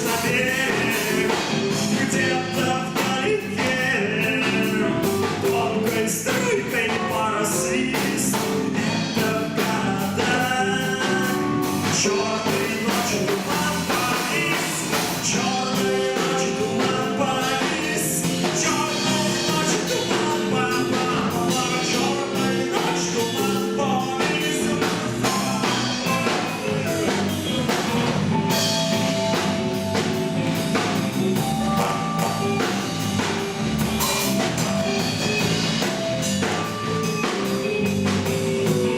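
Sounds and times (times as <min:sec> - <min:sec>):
drum kit: 0:00.0 - 0:38.9
guitars: 0:00.0 - 0:38.9
person singing: 0:00.0 - 0:38.9.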